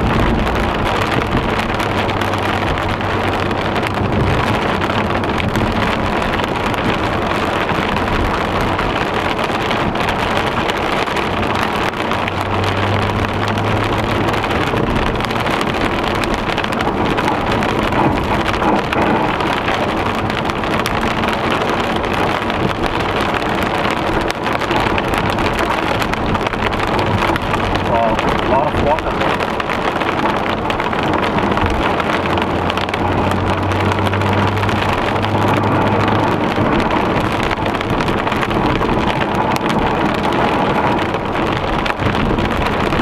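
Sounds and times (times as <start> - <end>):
car engine hum: 0.0 - 43.0
heavy rain on car roof: 0.0 - 43.0
tyres hissing on wet road: 0.0 - 43.0.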